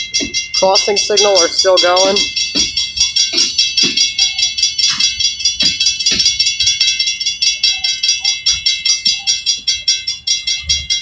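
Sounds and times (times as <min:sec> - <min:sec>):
railroad crossing bell ringing: 0:00.0 - 0:11.0.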